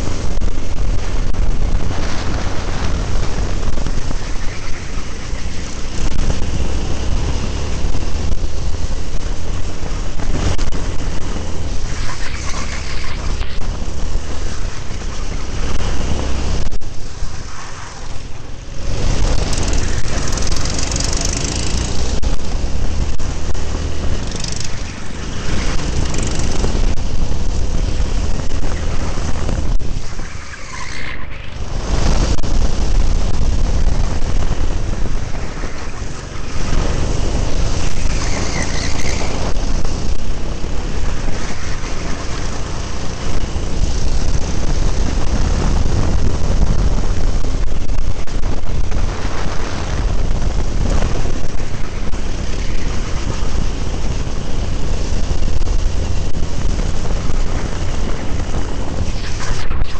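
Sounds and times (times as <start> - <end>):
go-kart engine racing: 0.0 - 59.9
wind buffeting on microphone: 0.0 - 59.9.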